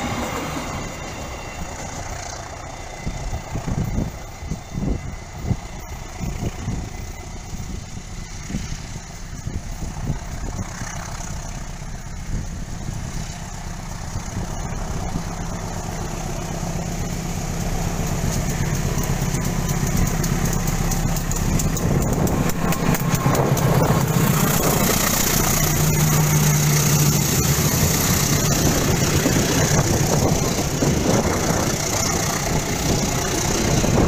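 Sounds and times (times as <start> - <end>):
diesel locomotive engine: 0.0 - 34.0
rapid train clatter: 0.0 - 34.0.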